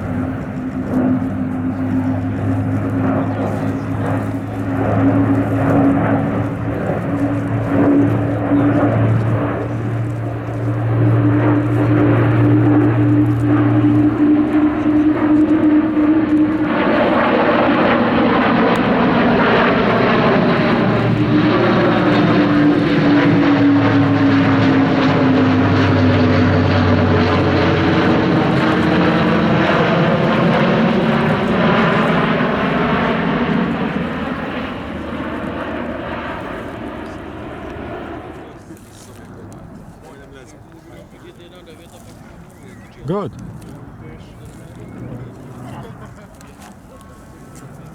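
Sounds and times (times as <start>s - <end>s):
turboprop aircraft droning: 0.0s - 47.9s.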